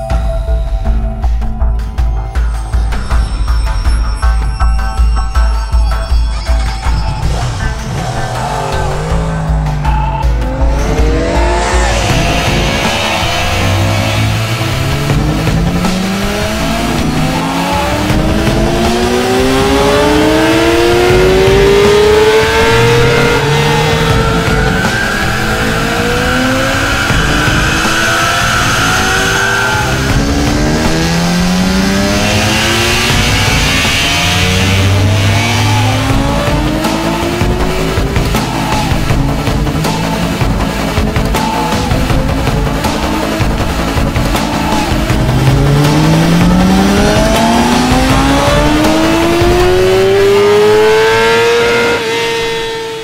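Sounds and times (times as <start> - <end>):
motorcycle engine revving: 7.2 - 53.0.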